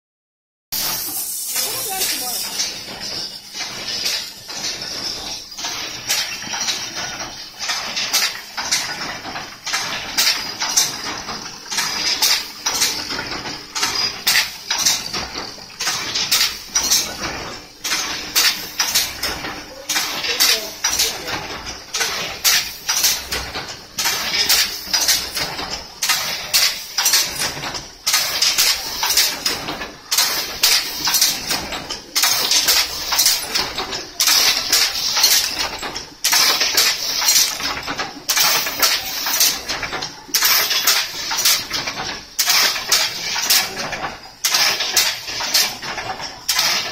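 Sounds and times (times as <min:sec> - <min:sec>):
weaving machine clattering: 0:00.8 - 0:46.9.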